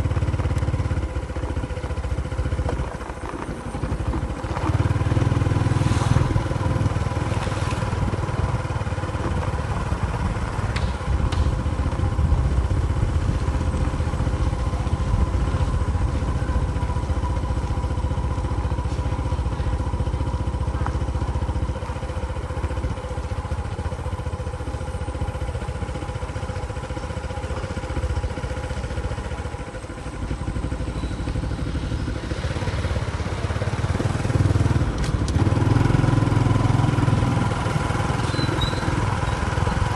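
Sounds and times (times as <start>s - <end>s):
engine running low rumble: 0.0s - 39.9s.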